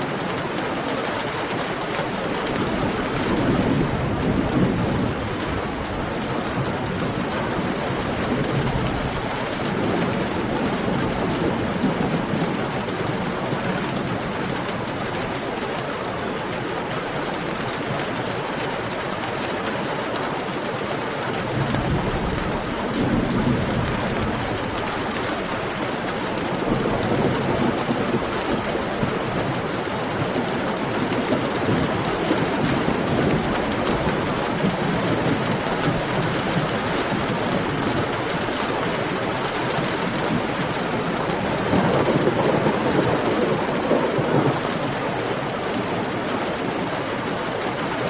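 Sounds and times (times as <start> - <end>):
heavy rain falling: 0.0 - 48.0
rolling thunder rumble: 1.5 - 15.6, 21.4 - 47.7.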